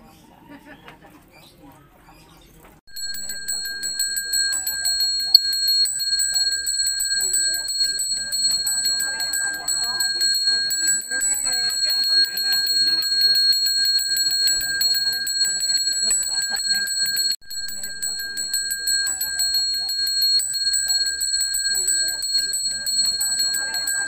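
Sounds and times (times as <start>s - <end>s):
brass handbell ringing rapidly: 2.9s - 24.0s
murmured voices: 2.9s - 24.0s.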